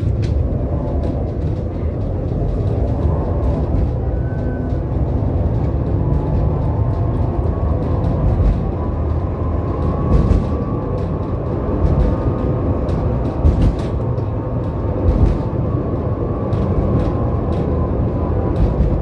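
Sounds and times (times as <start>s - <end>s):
tram rumbling along track: 0.0s - 19.0s.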